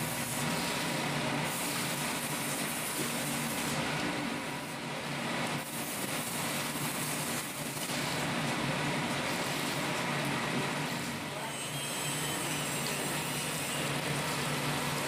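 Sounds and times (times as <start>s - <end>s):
steady mechanical drone: 0.0s - 15.0s.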